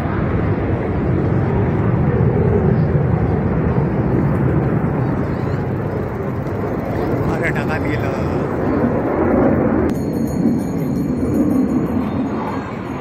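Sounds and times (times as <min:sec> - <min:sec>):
airplane engine rumble: 0:00.0 - 0:13.0.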